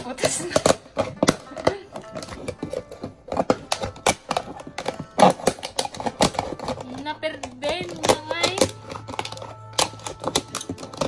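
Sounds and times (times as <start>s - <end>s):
knife sawing through plastic: 0.0s - 11.0s.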